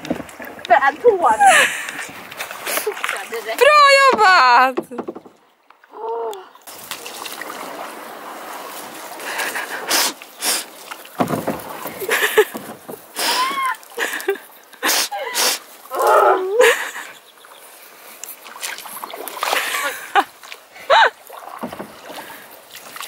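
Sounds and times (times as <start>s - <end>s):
reeds swishing along hull: 0.0s - 5.5s, 6.6s - 23.0s
canoe paddle splashing: 0.0s - 23.0s.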